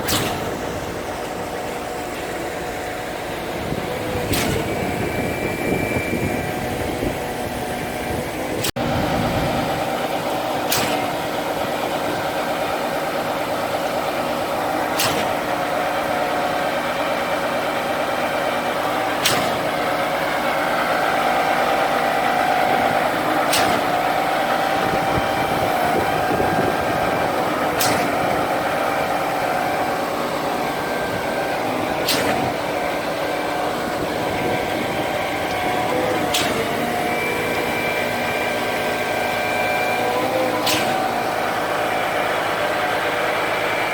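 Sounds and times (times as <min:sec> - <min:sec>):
concrete pump running: 0:00.0 - 0:43.9.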